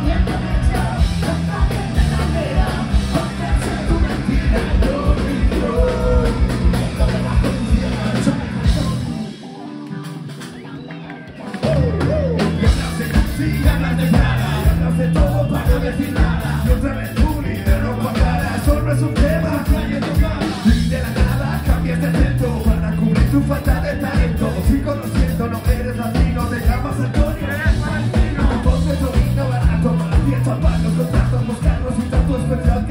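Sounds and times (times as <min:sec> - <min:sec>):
drums: 0:00.0 - 0:32.9
live rock band playing: 0:00.0 - 0:32.9
vocals into microphones: 0:00.0 - 0:32.9.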